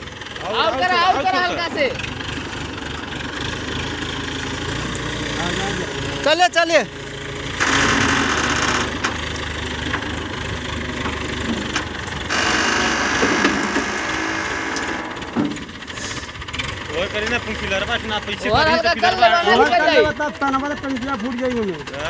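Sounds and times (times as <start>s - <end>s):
crane diesel engine under load: 0.0s - 22.0s.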